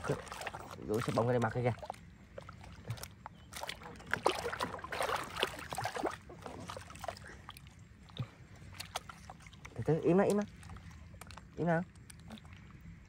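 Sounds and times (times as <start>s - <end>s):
water splashing in plastic basin: 0.0s - 12.7s.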